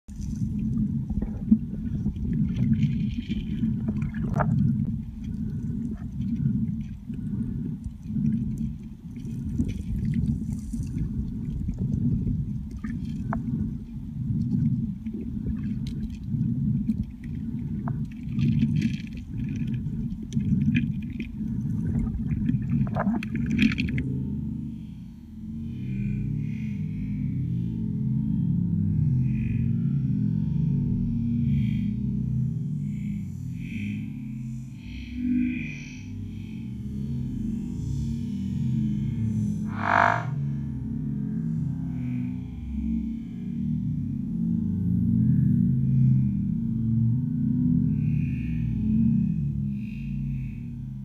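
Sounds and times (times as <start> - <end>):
underwater water rumble: 0.1 - 51.0.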